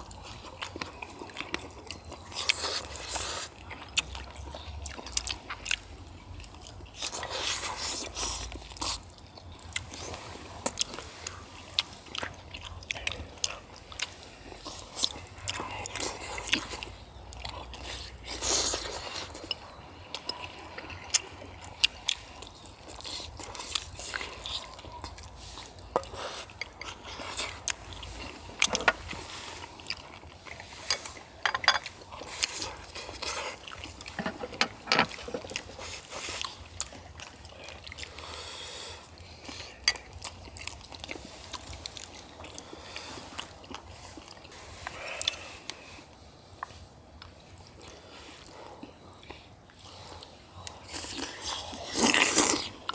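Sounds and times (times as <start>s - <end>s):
wet chewing and slurping: 0.0s - 52.9s.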